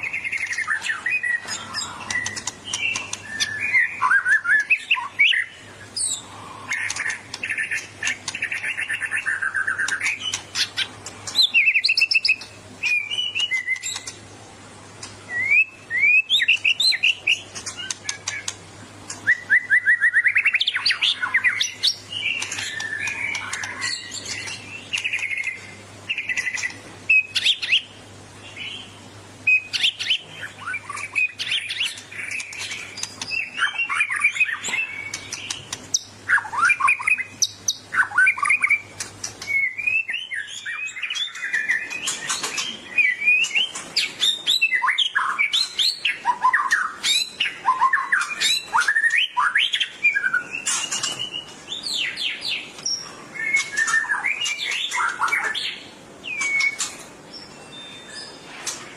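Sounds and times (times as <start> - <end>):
bird singing trills and whistles: 0.0 - 14.2, 15.0 - 58.9.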